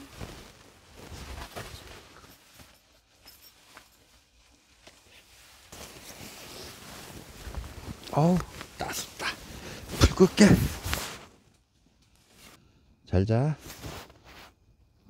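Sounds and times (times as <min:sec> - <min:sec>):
rustling handling noise: 0:00.0 - 0:12.6, 0:13.6 - 0:14.8.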